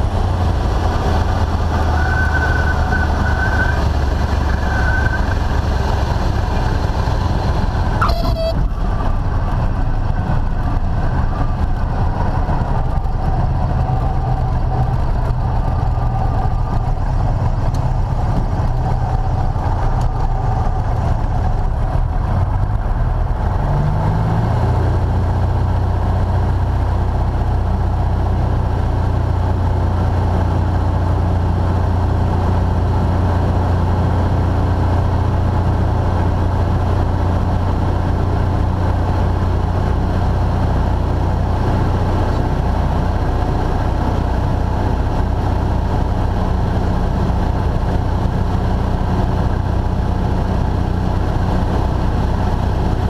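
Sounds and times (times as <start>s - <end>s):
light airplane engine and propeller: 0.0s - 1.9s, 2.7s - 53.0s.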